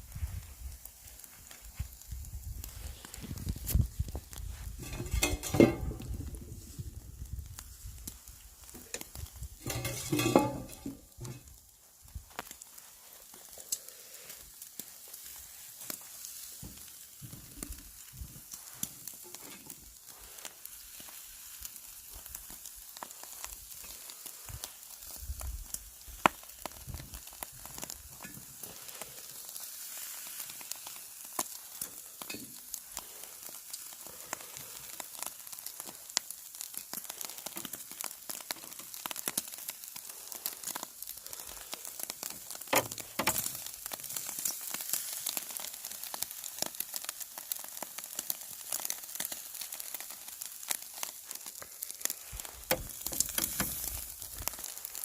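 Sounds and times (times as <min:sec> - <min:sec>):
meat sizzling on charcoal grill: 0:00.0 - 0:55.0.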